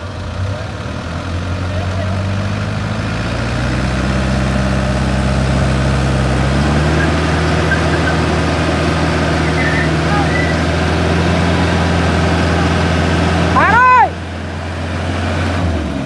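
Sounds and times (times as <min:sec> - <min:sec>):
diesel engines running under load: 0:00.0 - 0:16.0.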